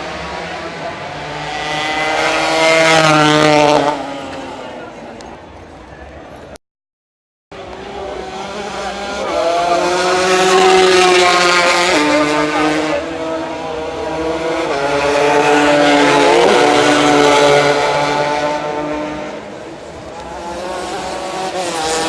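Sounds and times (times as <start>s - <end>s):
racing motorcycle engines passing: 0.0s - 5.2s, 7.6s - 22.0s.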